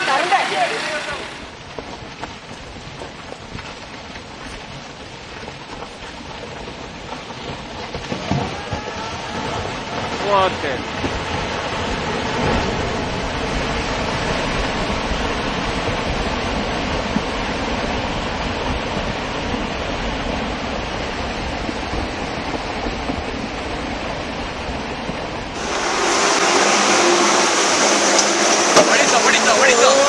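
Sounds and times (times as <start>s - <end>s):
rockslide roar: 0.0s - 30.0s.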